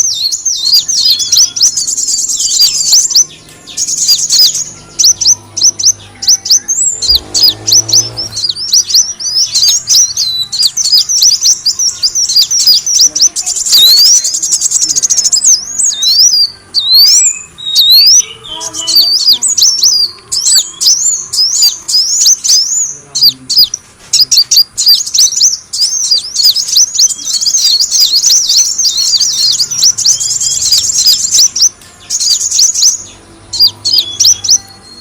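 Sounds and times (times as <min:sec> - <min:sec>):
buzzy bird trill: 0:00.0 - 0:35.0
sunbird chirping: 0:00.0 - 0:35.0.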